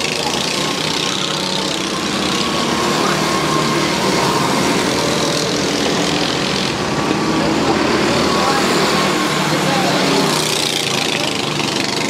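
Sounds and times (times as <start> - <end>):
go-kart engines droning: 0.0 - 12.0.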